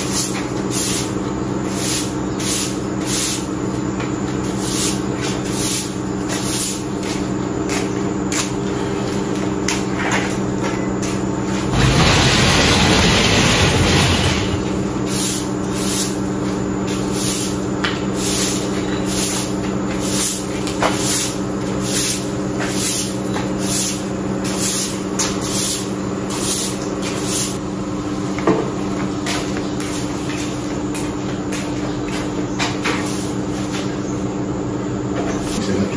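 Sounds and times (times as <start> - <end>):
broom sweeping concrete floor: 0.0 - 9.3, 11.4 - 27.6, 29.2 - 34.0, 35.2 - 35.6
steady low hum: 0.0 - 35.9.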